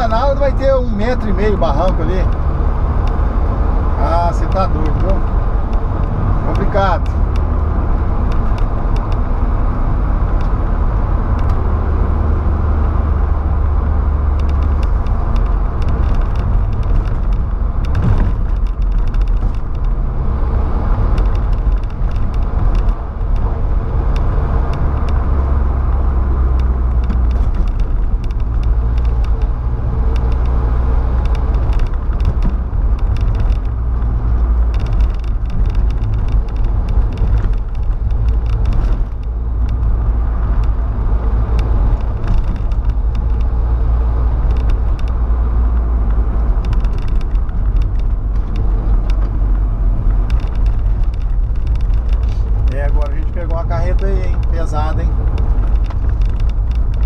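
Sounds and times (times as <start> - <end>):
low engine drone: 0.0 - 57.0
tyre and road noise: 0.0 - 57.0.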